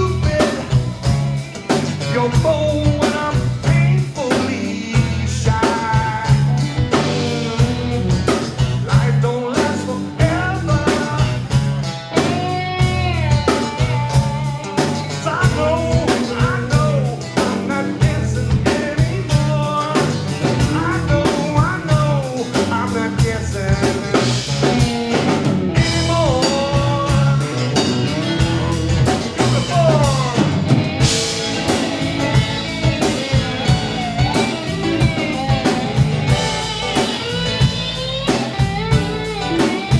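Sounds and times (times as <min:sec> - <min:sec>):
blues-rock band playing: 0:00.0 - 0:39.9
drum kit beat: 0:00.0 - 0:39.9
electric guitar: 0:00.0 - 0:39.9
person singing: 0:00.0 - 0:39.9.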